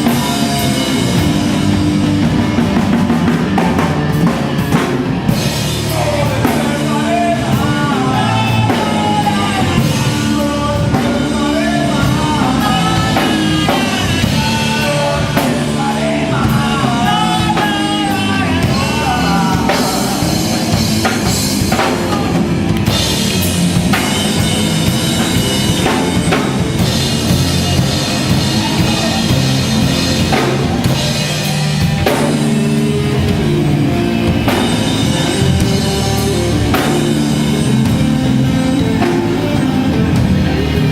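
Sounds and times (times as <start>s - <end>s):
bass guitar: 0.0s - 40.9s
drum kit beat: 0.0s - 40.9s
electric guitar: 0.0s - 40.9s.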